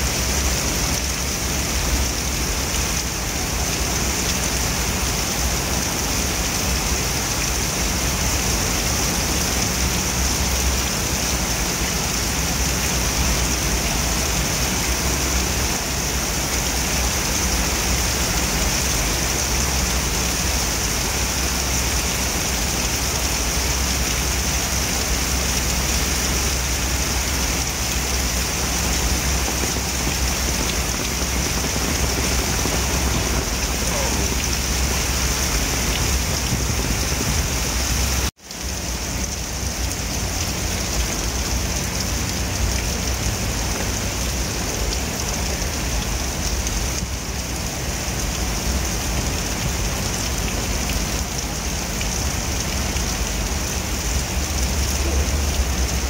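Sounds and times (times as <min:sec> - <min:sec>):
heavy rain on road: 0:00.0 - 0:56.0.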